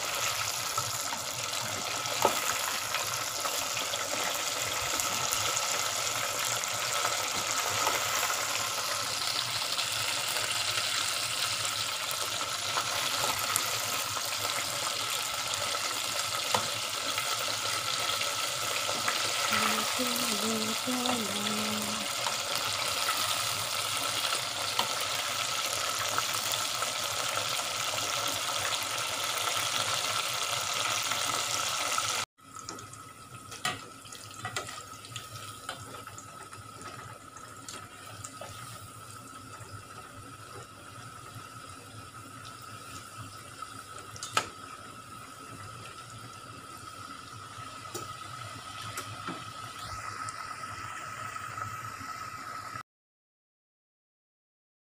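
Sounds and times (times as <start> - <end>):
food deep-frying in oil: 0.0 - 52.8.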